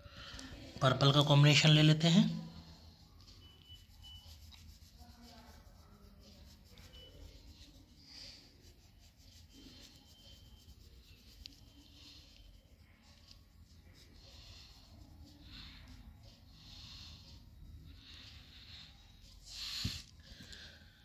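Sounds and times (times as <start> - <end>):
crayon scratching on paper: 1.4 - 20.3.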